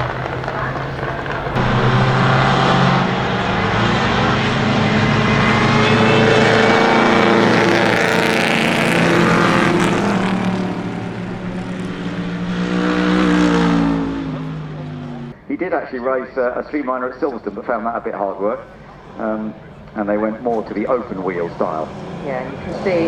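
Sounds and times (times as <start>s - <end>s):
racing car engines passing: 0.0s - 15.6s, 18.6s - 23.0s.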